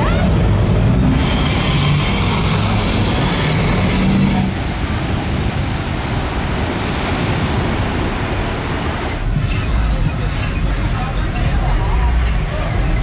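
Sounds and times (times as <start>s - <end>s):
trucks driving past: 0.0s - 13.0s.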